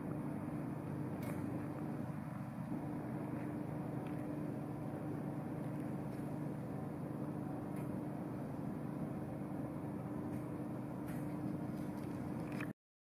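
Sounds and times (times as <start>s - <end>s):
constant low tone: 0.0s - 12.7s
low hum of hall room noise: 0.0s - 12.7s.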